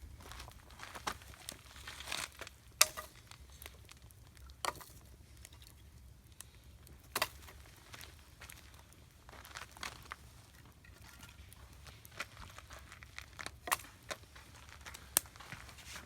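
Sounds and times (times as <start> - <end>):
campfire crackling and popping: 0.0 - 15.7.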